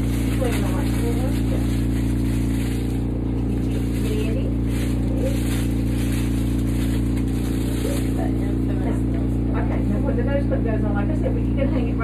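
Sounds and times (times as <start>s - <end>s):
steady mechanical hum: 0.0s - 12.0s
faint voices: 0.2s - 12.0s.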